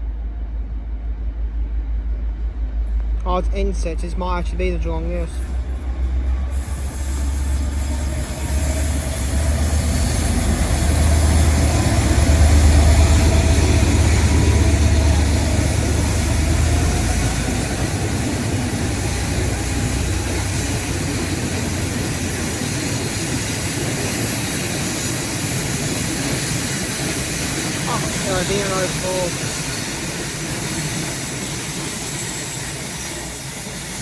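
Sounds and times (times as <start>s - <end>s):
train engine rumble: 0.0s - 34.0s.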